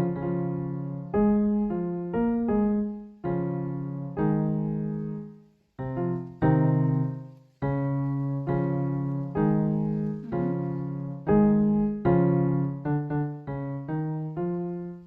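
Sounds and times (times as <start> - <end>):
keyboard chords: 0.0 - 5.2, 5.9 - 15.0.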